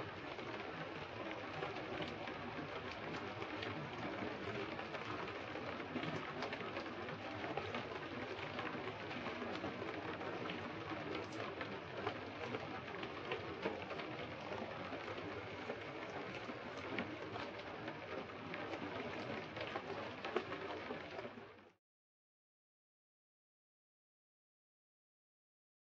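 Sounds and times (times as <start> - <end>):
heavy rain on water: 0.0 - 21.7.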